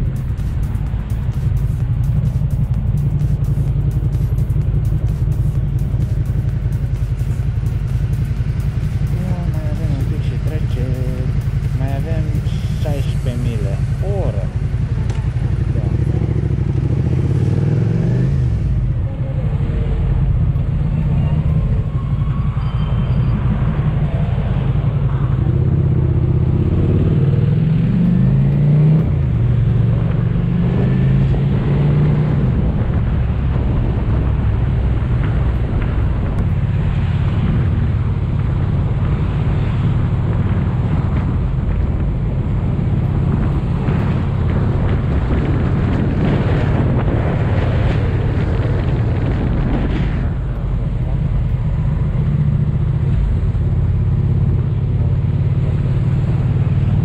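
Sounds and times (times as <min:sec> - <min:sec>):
motorcycle engine revving: 0:00.0 - 0:57.0
road and wind noise: 0:00.0 - 0:57.0.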